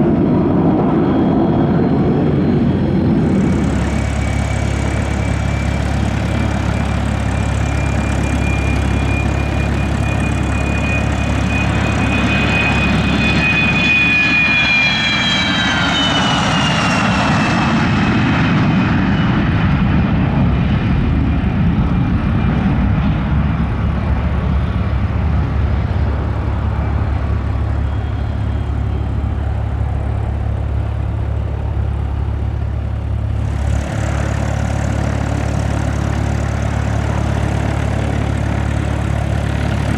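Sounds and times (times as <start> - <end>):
jet engines passing by: 0.0 - 39.9.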